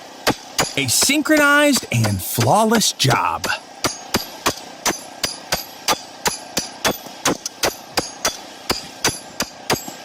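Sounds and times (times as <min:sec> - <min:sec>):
hammer blows with metallic ring: 0:00.2 - 0:10.0.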